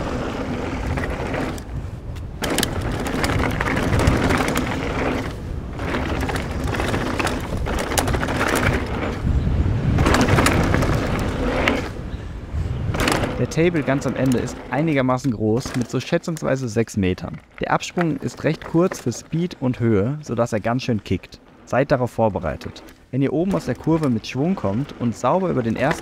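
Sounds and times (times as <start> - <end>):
bike rattling and knocking: 0.0 - 21.6, 22.3 - 26.0
bike tyres rolling on dirt: 0.0 - 26.0.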